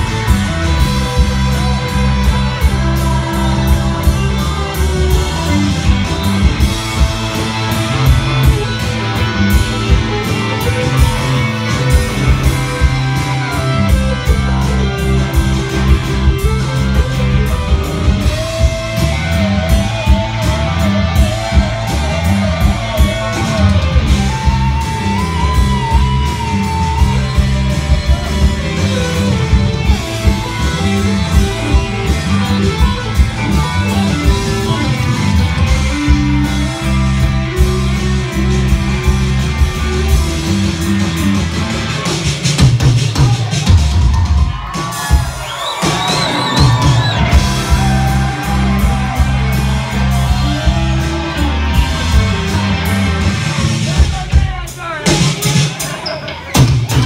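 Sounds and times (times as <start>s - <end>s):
lead guitar with vibrato: 0.0s - 42.5s, 46.6s - 57.0s
bass line: 0.0s - 55.7s
rock band playing: 0.0s - 57.0s.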